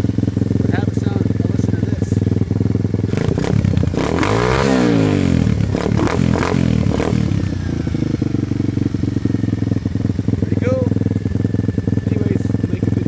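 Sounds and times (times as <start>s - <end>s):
dirt bike engine idling and revving: 0.0s - 13.0s.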